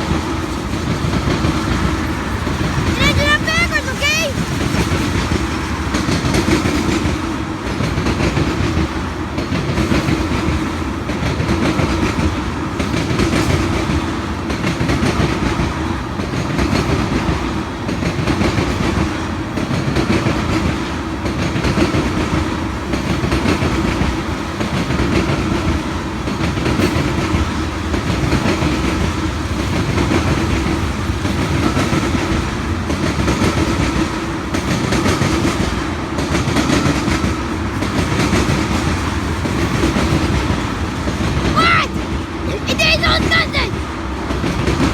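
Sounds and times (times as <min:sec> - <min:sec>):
train wheels clacking over rail joints: 0:04.4 - 0:42.2.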